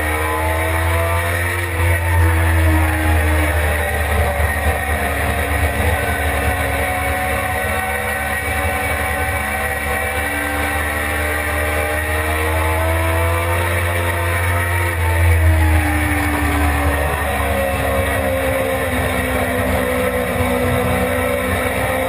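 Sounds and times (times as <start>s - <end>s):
motorcycle engine running hard: 0.0s - 22.0s.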